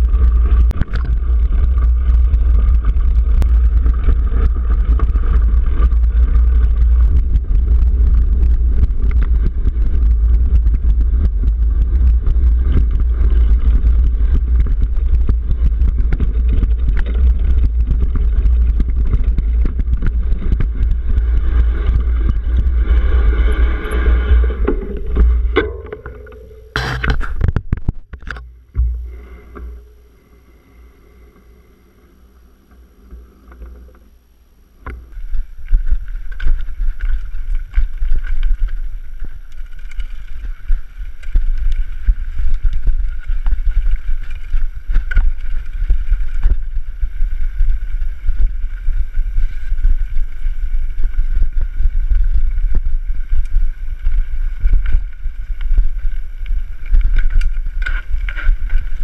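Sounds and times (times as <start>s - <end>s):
bike rattling and knocking: 0.0s - 29.8s, 35.0s - 59.0s
wind rumble on microphone: 0.0s - 59.0s.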